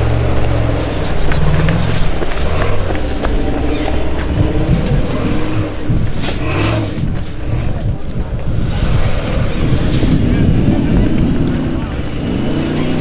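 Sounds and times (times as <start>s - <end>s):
truck engine running loudly: 0.0s - 13.0s.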